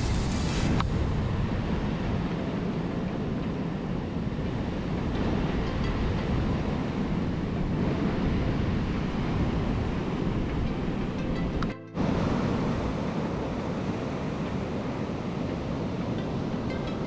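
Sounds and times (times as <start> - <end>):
sea rushing: 0.0 - 17.0
wind buffeting microphone: 0.0 - 17.0.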